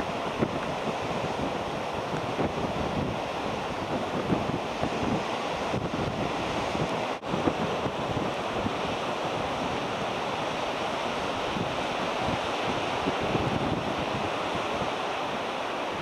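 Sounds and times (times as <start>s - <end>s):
sea surf washing: 0.0s - 16.0s
wind buffeting microphone: 0.0s - 16.0s.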